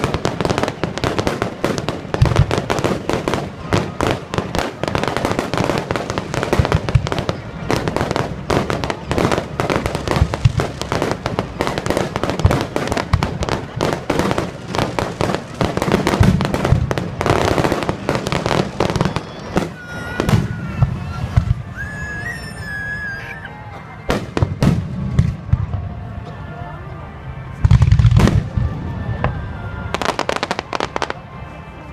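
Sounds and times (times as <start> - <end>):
aerial fireworks bursting: 0.0 - 25.8.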